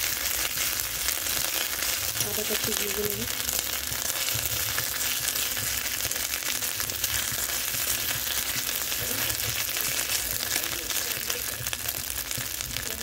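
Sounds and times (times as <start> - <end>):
frying hiss in a wok: 0.0 - 13.0
spatula stirring: 0.0 - 13.0.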